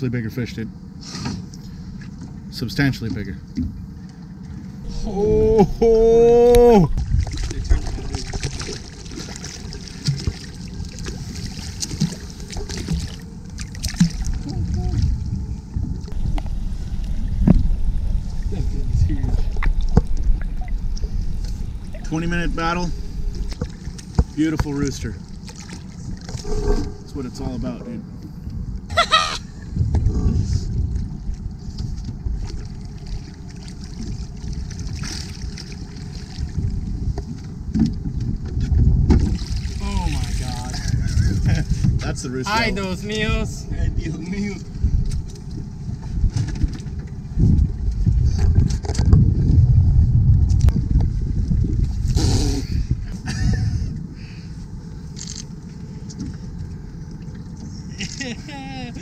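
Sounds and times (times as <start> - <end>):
water lapping against hull: 0.7 - 59.0
wind noise: 4.8 - 25.2, 26.0 - 32.9, 34.0 - 55.4.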